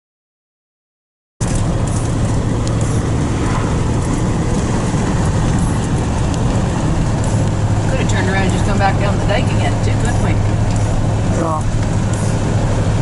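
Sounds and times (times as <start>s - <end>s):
road noise: 1.4s - 13.0s
truck engine drone: 1.4s - 13.0s.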